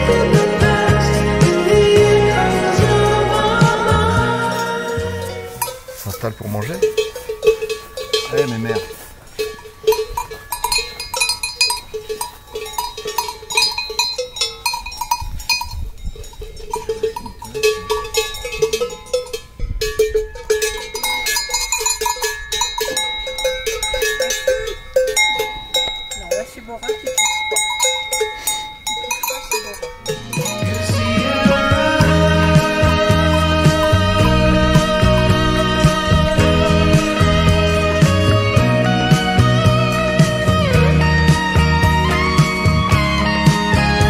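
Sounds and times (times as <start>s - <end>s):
cowbells clanking: 0.0s - 44.0s.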